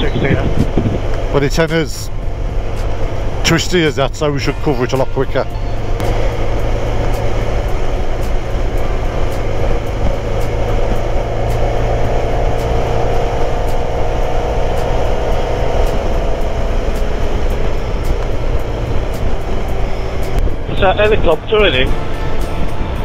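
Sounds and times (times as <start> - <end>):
motorcycle engine drone: 0.0 - 23.0
wind and road rush: 0.0 - 23.0.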